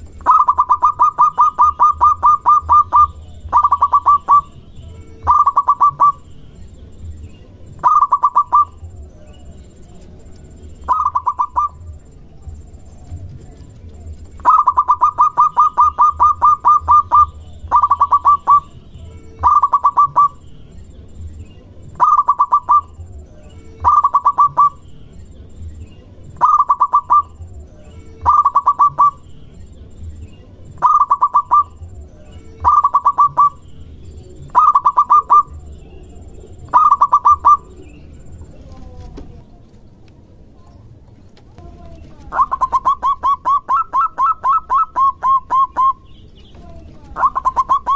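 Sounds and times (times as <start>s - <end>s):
dove cooing: 0.0s - 6.4s, 7.1s - 20.5s, 21.6s - 24.8s, 26.2s - 29.4s, 30.6s - 39.6s, 41.5s - 47.9s.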